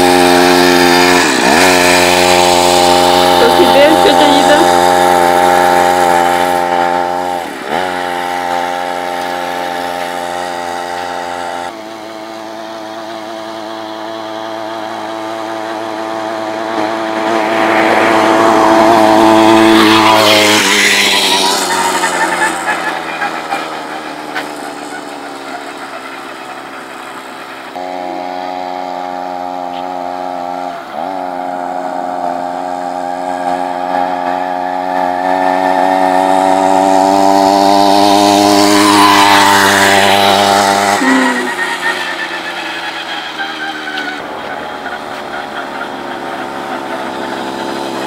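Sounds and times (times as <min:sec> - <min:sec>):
two-stroke engine buzzing: 0:00.0 - 0:48.0.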